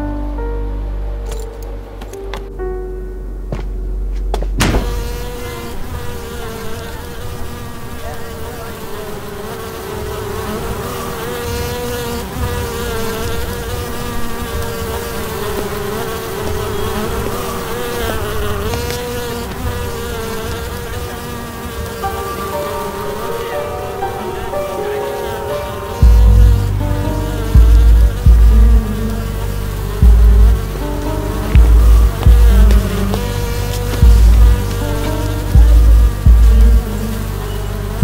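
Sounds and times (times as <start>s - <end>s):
buzzing drone: 0.0s - 38.0s.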